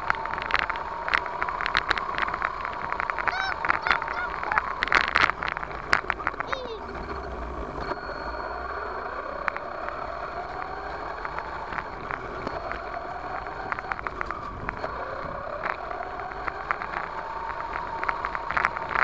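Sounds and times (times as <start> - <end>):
toy truck motor whining: 0.0 - 19.0
tyres rumbling on dirt: 0.0 - 19.0.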